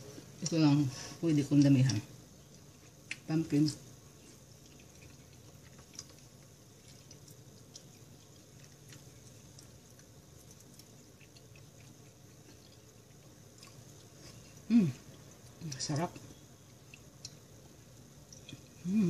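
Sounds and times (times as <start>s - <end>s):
quiet chewing: 1.4s - 19.0s.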